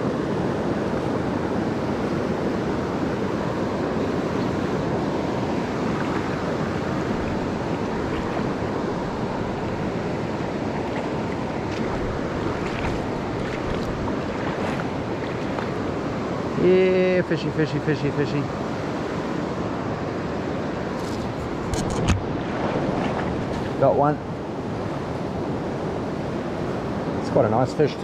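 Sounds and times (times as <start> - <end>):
wind on microphone: 0.0 - 16.2, 20.8 - 27.1
river water rushing: 0.0 - 28.0.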